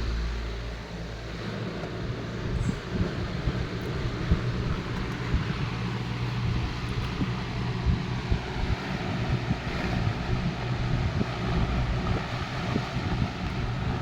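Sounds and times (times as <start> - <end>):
air rushing from fan blades: 0.0 - 14.0
table fan motor hum: 0.0 - 14.0.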